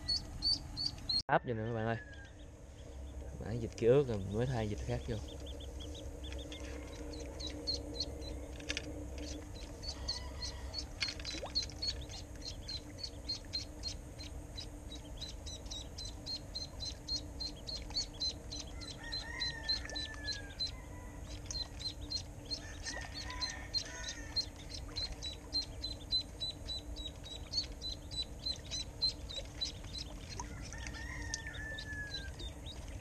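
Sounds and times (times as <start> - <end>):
duckling peeping: 0.0 - 3.3, 4.1 - 33.0.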